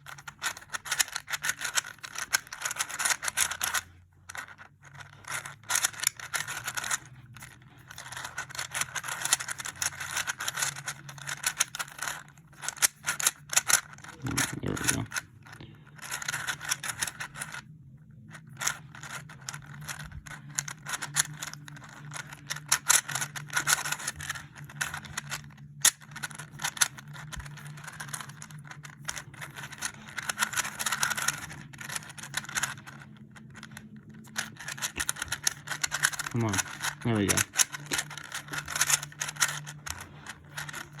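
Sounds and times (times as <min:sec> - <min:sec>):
puzzle cube clicking and scraping: 0:00.0 - 0:41.0.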